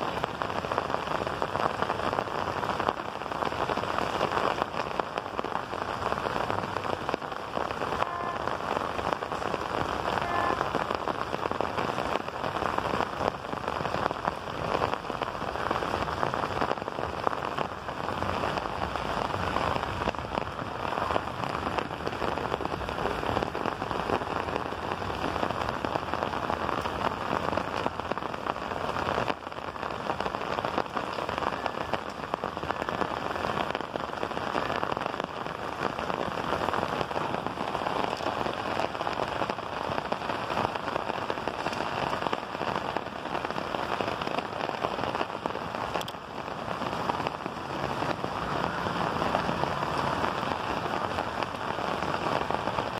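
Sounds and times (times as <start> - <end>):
rain hissing: 0.0 - 52.9
raindrops ticking: 0.0 - 52.9.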